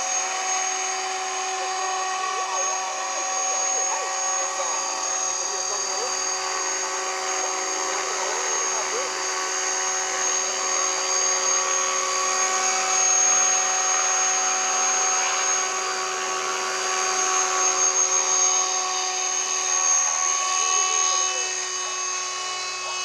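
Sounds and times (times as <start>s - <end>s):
high-pitched motor whine: 0.0s - 23.0s.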